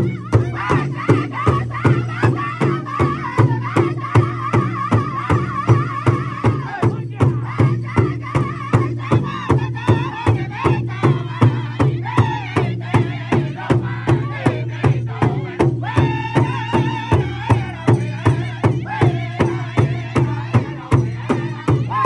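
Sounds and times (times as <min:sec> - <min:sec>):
group singing in unison: 0:00.0 - 0:22.0
large drum beating: 0:00.0 - 0:22.0.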